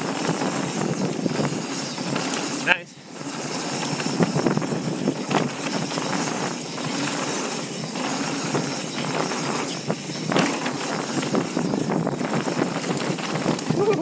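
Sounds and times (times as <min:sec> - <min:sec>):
bike rattling: 0:00.0 - 0:14.0
bike tyres on dirt: 0:00.0 - 0:14.0.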